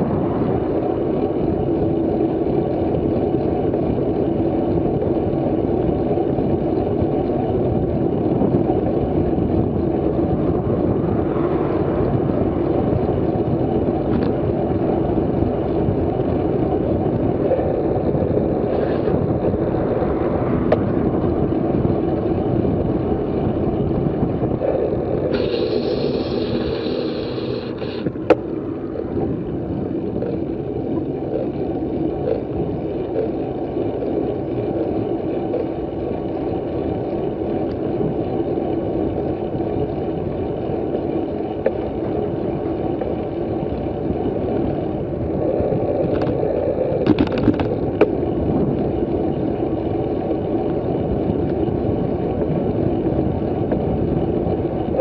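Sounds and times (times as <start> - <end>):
sharp clicks and rattles: 0.0 - 55.0
tyre and road noise: 0.0 - 55.0
wind buffeting microphone: 0.0 - 55.0.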